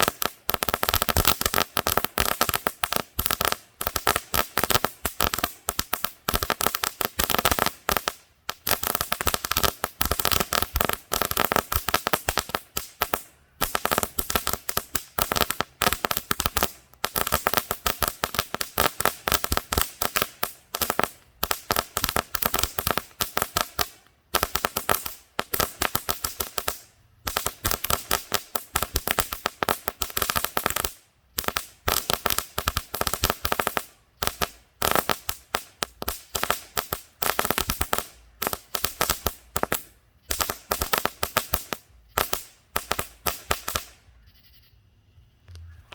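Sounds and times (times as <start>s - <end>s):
crackling fireworks: 0.0s - 44.2s.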